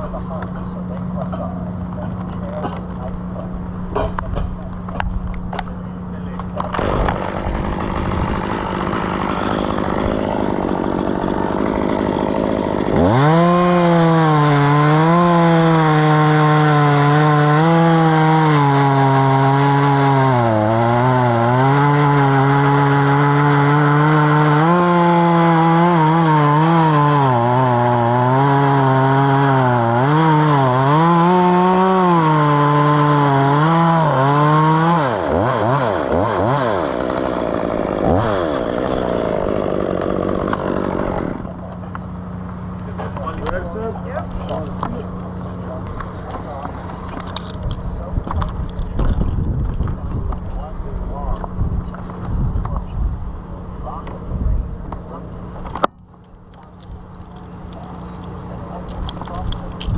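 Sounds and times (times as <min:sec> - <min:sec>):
chainsaw cutting wood: 0:03.9 - 0:50.6, 0:55.4 - 0:59.9.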